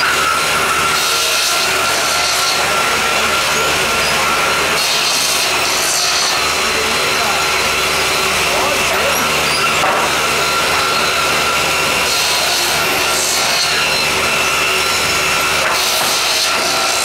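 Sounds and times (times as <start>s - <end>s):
table saw cutting wood: 0.0s - 17.0s.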